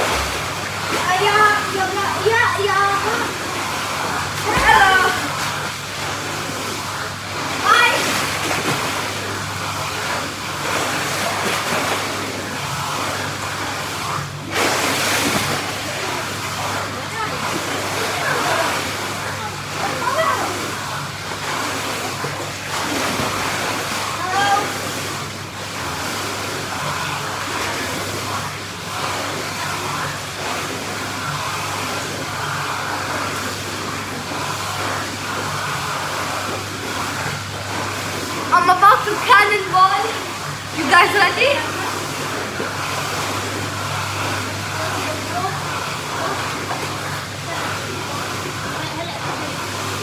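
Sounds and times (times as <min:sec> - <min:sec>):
pool jets bubbling water: 0:00.0 - 0:50.0.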